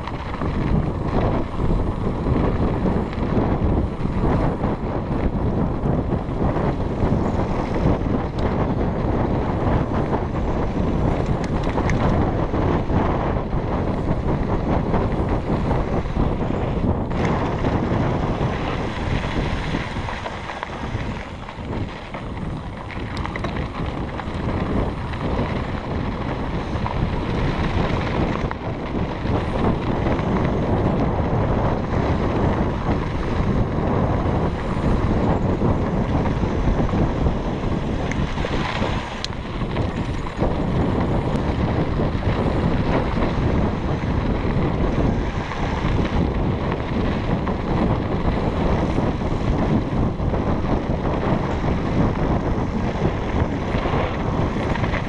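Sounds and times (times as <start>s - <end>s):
bike knocks and rattles: 0.0s - 55.0s
tyres rolling on dirt trail: 0.0s - 55.0s
wind buffeting microphone: 0.0s - 55.0s.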